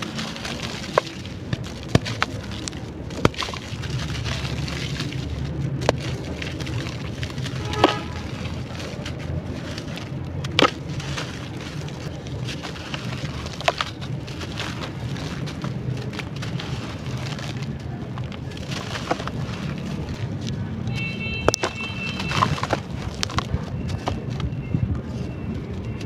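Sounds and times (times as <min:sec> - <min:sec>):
clay crumbling and crackling: 0:00.0 - 0:26.0.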